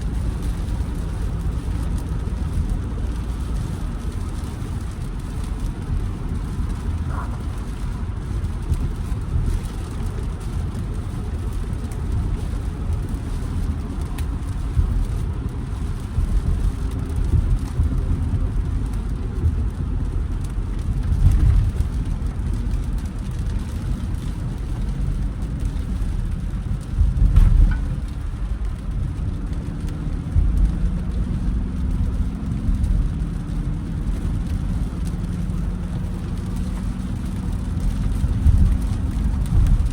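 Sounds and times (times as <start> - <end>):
car engine and road rumble: 0.0 - 39.9
rain hissing on wet road: 0.0 - 39.9.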